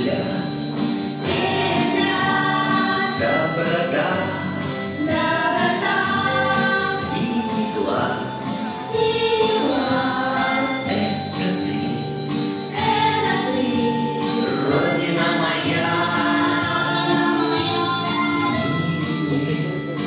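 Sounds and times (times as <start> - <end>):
choir singing held notes: 0.0 - 20.0
instrumental accompaniment: 0.0 - 20.0.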